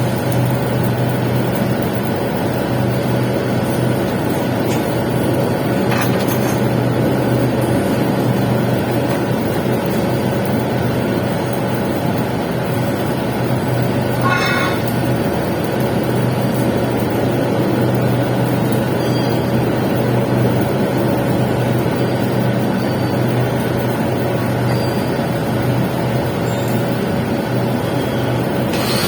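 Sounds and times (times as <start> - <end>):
welding arc crackling: 0.0 - 29.0.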